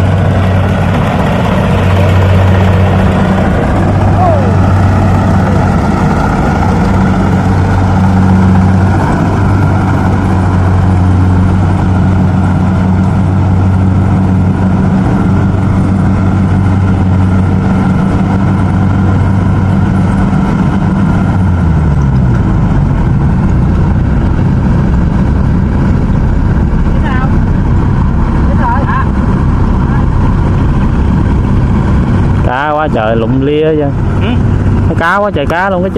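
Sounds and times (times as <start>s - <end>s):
harvester diesel engine running: 0.0s - 35.9s.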